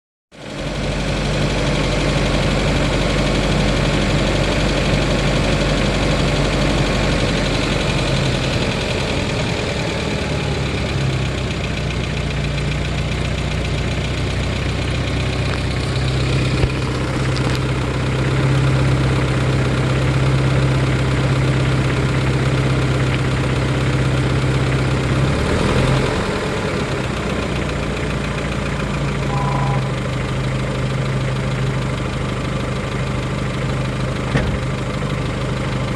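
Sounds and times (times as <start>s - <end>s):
engine idling with knocking: 0.3s - 35.9s.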